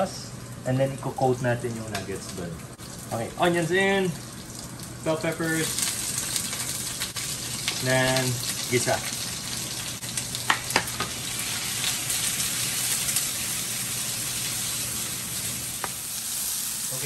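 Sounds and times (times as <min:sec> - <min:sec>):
vegetables sizzling in oil: 0:01.9 - 0:17.0.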